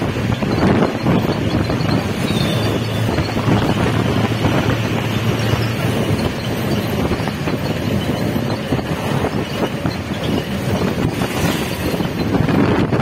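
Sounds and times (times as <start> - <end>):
vehicle road noise: 0.0 - 13.0
wind noise on microphone: 0.0 - 13.0.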